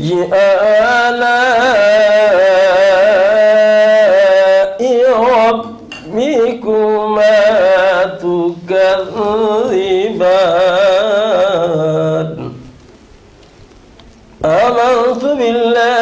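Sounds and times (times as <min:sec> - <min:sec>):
man chanting religious recitation: 0:00.0 - 0:12.8, 0:14.4 - 0:16.0.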